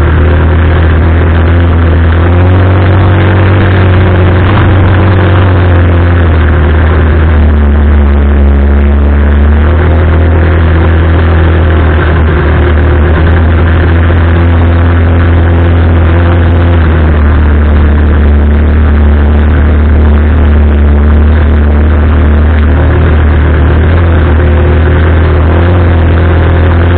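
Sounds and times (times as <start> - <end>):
quad bike engine running: 0.0 - 26.9.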